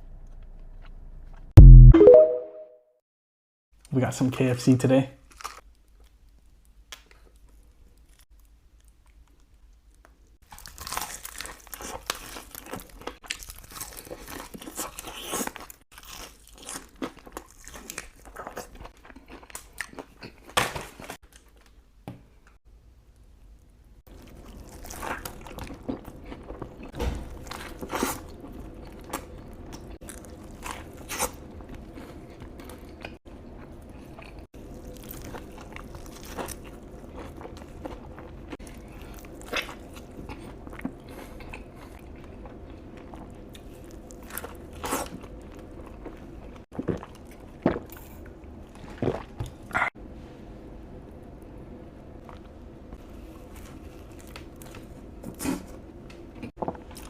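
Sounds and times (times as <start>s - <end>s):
crunching and chewing fried food: 5.2s - 21.8s, 24.1s - 50.0s, 51.1s - 57.0s.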